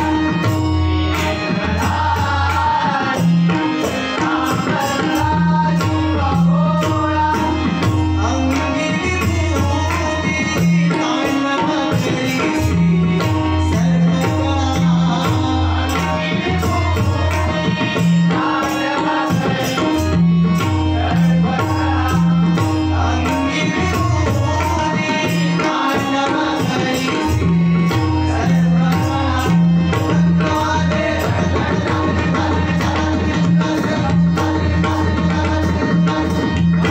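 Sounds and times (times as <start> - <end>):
hand drums playing rhythm: 0.0 - 36.9.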